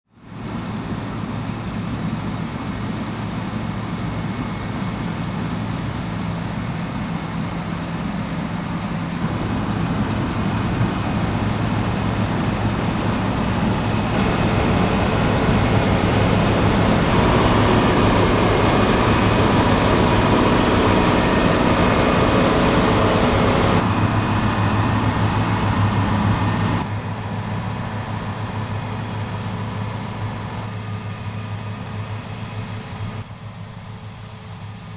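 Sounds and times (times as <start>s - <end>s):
combine harvester engine drone: 0.1s - 34.9s.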